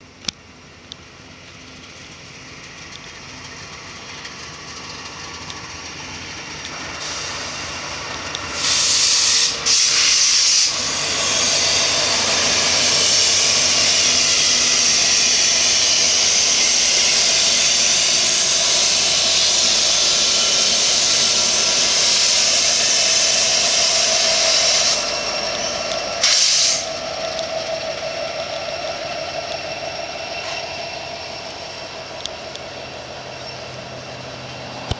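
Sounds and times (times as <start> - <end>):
diesel locomotives passing: 0.0 - 34.9.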